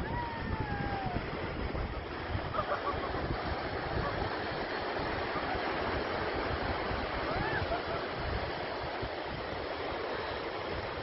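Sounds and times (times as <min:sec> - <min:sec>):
sea surf on pebble beach: 0:00.0 - 0:11.0
wind buffeting microphone: 0:00.0 - 0:11.0.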